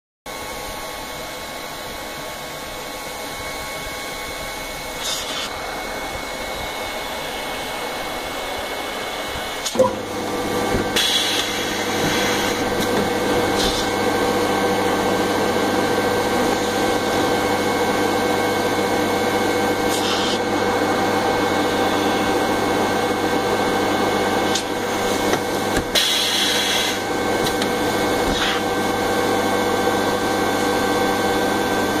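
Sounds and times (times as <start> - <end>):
air blower running: 0.3 - 32.0.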